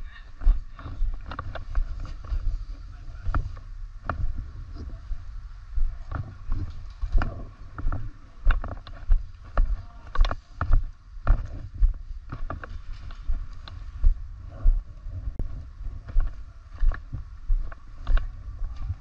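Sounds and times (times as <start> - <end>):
running footsteps on tarmac: 0.0 - 19.0.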